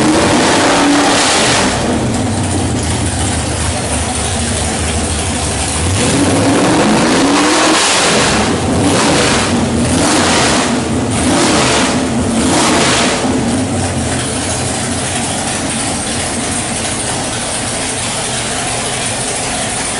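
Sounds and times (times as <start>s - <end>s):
engine revving: 0.0s - 19.9s.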